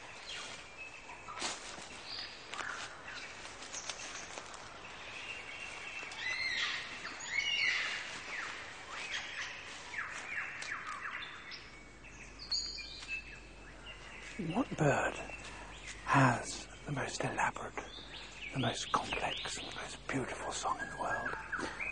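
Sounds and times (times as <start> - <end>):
birds singing and calling: 0.0 - 21.9.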